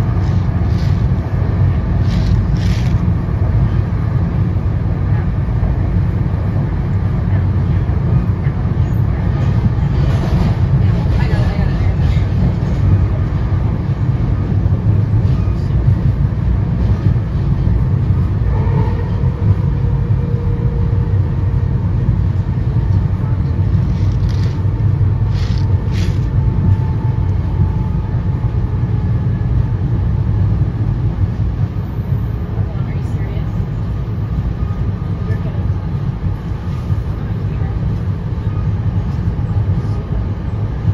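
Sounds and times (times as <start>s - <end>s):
train coach rumbling at speed: 0.0s - 40.9s.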